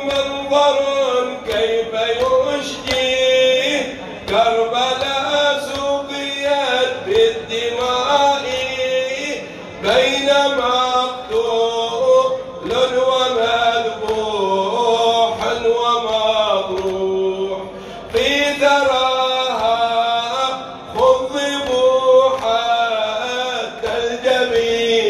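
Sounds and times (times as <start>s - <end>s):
man singing lament unaccompanied: 0.0s - 25.0s.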